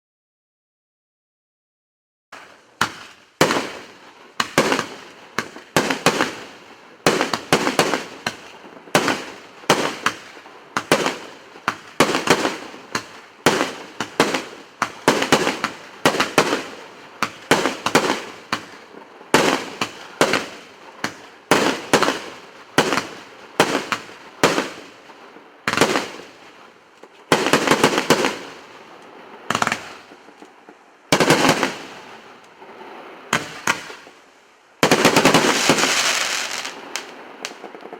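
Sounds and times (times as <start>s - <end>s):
fireworks bangs: 2.4s - 37.9s.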